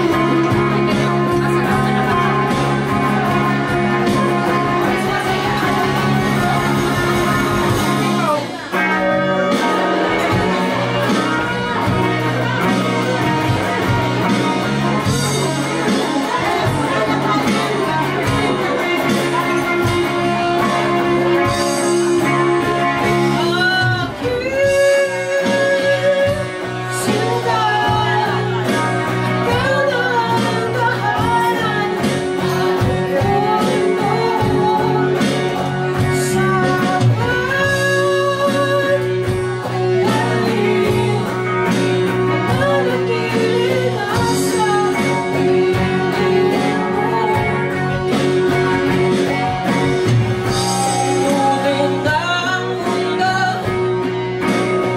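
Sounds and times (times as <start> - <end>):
live rock band playing: 0.0 - 54.9
wavering guitar lead melody: 0.0 - 54.9.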